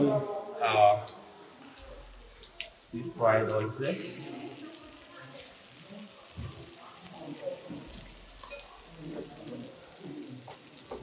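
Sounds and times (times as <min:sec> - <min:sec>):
oysters sizzling in oil: 0:00.0 - 0:11.0.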